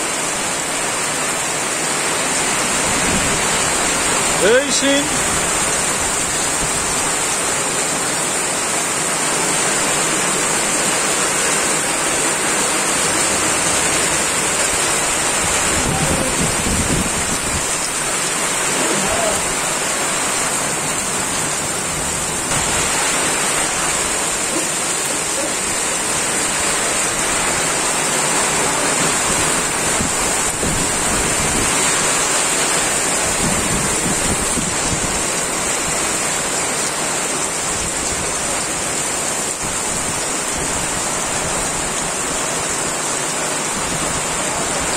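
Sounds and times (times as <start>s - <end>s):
heavy rain on a road: 0.0s - 44.9s.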